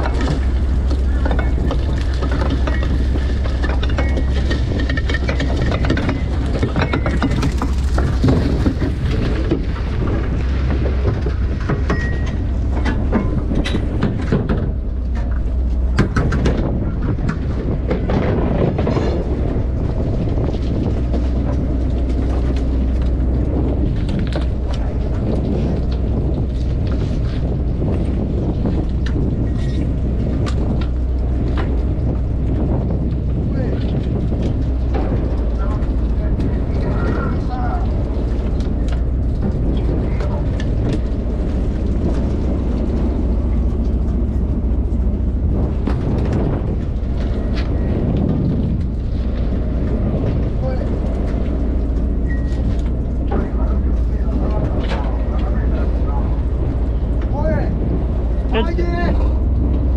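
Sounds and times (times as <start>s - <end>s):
boat engine droning: 0.0s - 59.9s
knocks and rattles of gear: 0.0s - 59.9s.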